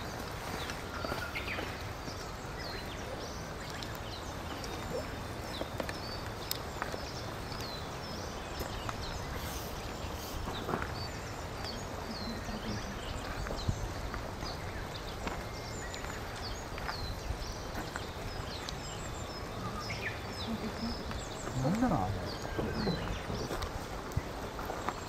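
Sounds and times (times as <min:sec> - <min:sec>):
small birds chirping: 0:00.0 - 0:25.0
steady outdoor hiss: 0:00.0 - 0:25.0.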